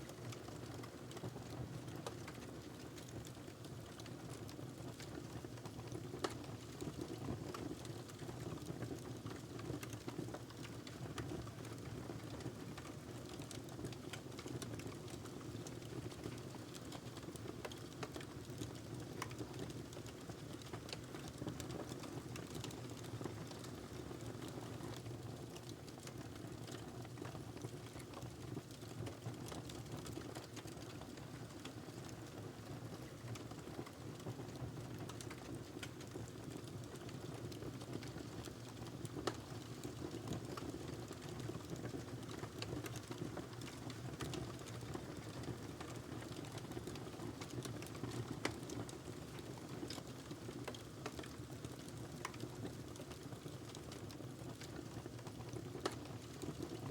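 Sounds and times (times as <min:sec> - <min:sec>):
log crackling in fireplace: 0:00.0 - 0:56.9.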